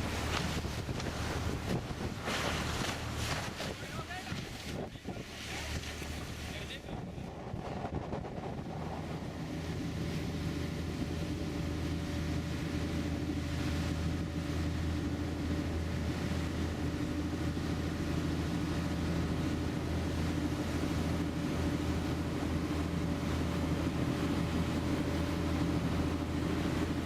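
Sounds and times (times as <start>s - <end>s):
boat engine droning: 0.0s - 27.0s
water noise: 0.0s - 27.0s
wind: 0.0s - 27.0s.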